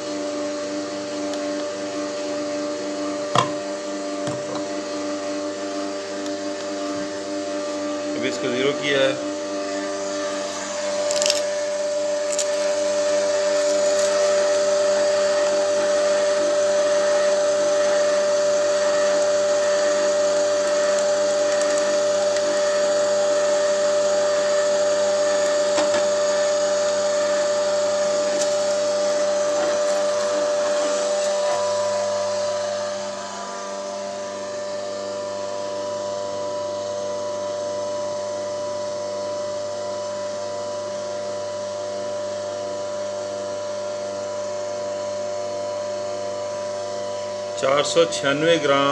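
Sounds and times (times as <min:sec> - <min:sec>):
oil press motor humming: 0:00.0 - 0:47.6.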